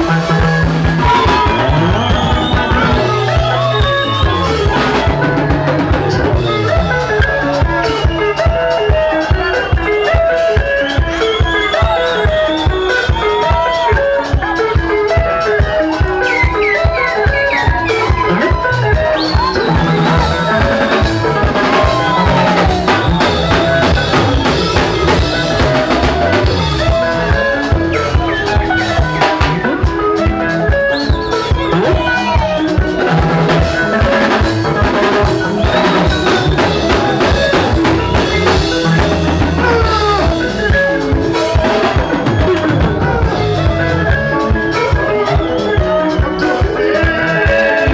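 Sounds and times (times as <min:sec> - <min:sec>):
drum kit beat: 0:00.0 - 0:47.9
electric bass: 0:00.0 - 0:47.9
lead guitar lines: 0:00.0 - 0:47.9
rhythm guitar: 0:00.0 - 0:47.9.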